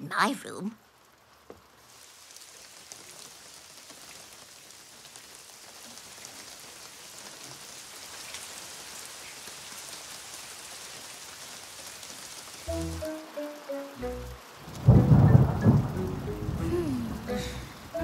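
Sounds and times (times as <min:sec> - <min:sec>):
heavy rain on roof tiles: 0:00.0 - 0:18.0.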